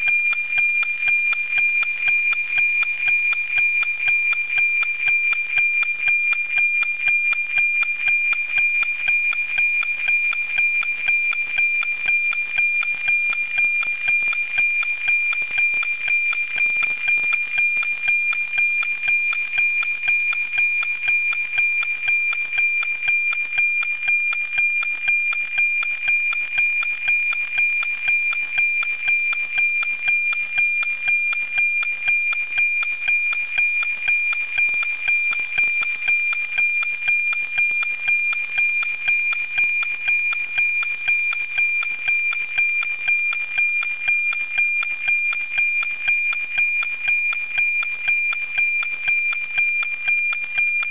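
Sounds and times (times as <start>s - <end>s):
regular tick-tock: 0.0s - 50.9s
steady high-pitched tone: 0.0s - 50.9s.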